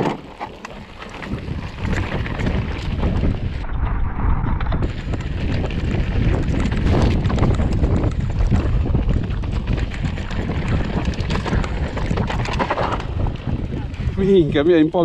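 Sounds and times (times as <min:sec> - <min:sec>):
bike rattling: 0:00.0 - 0:15.0
wind rumbling on microphone: 0:00.0 - 0:15.0.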